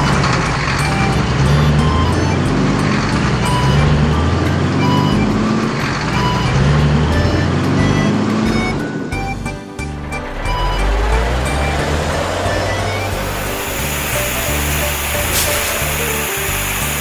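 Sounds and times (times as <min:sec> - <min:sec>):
background music: 0:00.0 - 0:17.0
truck engine running: 0:00.0 - 0:17.0.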